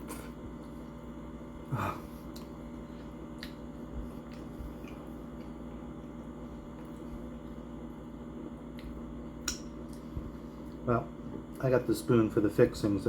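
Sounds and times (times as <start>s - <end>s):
person chewing food: 0.0s - 10.8s
low room hum: 0.0s - 13.0s.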